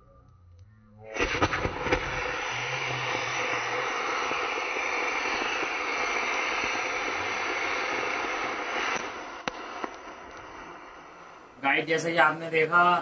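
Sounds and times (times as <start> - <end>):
firework rockets crackling hiss: 1.1 - 11.8.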